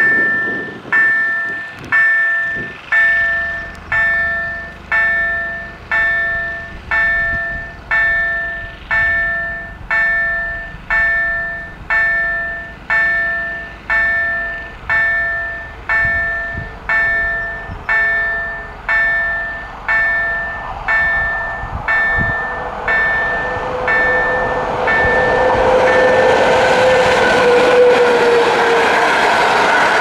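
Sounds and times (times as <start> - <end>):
level crossing warning bell: 0.0 - 27.9.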